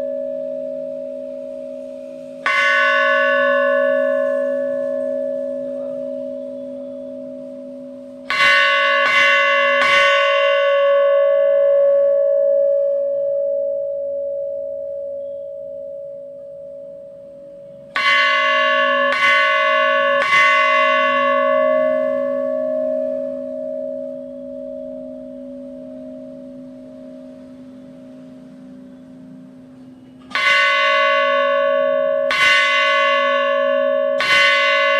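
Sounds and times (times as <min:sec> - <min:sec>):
bell humming: 0:00.0 - 0:34.9
temple bell struck: 0:00.0 - 0:34.9.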